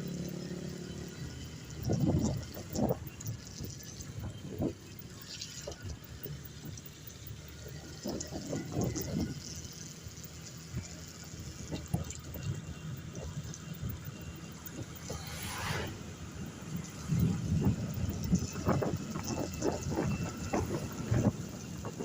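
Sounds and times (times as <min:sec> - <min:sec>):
rain: 0:00.0 - 0:22.0.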